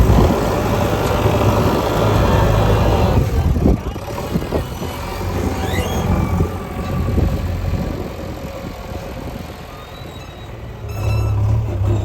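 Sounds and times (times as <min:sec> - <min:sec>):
diesel machinery engine drone: 0:00.0 - 0:12.0.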